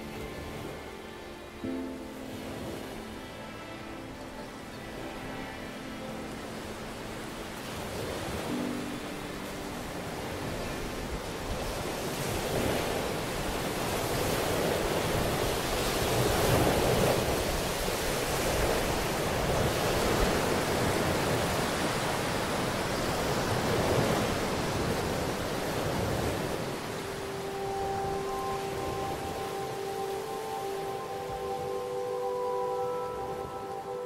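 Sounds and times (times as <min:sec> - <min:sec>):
ocean waves rushing: 0:00.0 - 0:34.0.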